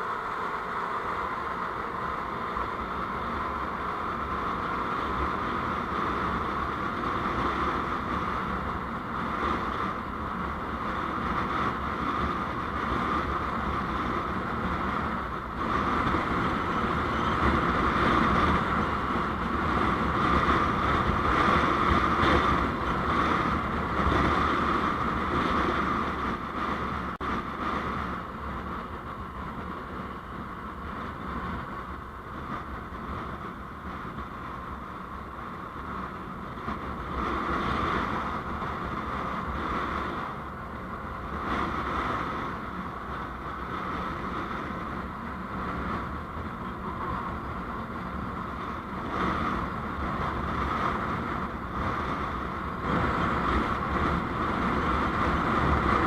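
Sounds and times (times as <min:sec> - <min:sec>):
vehicle road and wind noise: 0:00.0 - 0:56.0.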